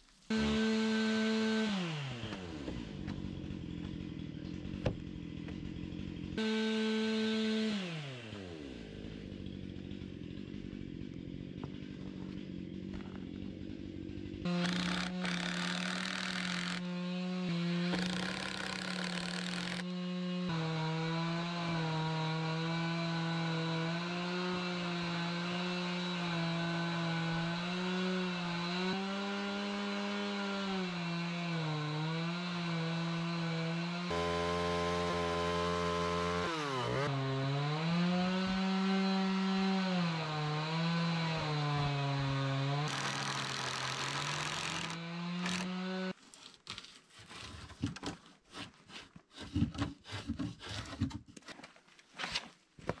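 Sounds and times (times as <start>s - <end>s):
chainsaw cutting wood: 0.2s - 46.9s.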